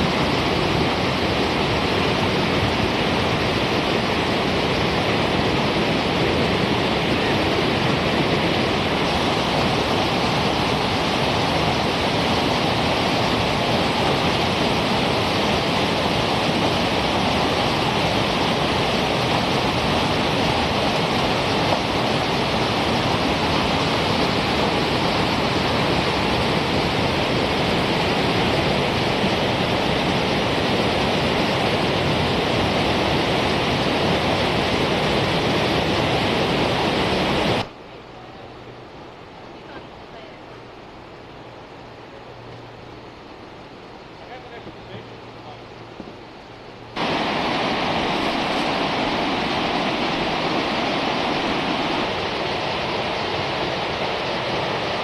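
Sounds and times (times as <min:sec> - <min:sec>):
river rapids rushing: 0:00.0 - 0:55.0.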